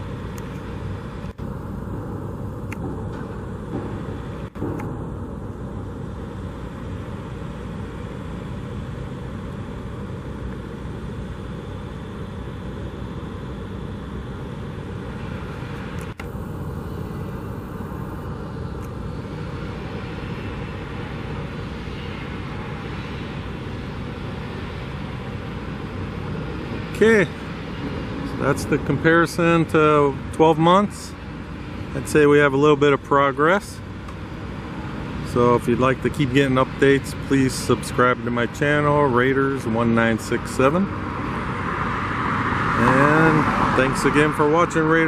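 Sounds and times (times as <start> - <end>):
low outdoor rumbling: 0.0 - 45.0.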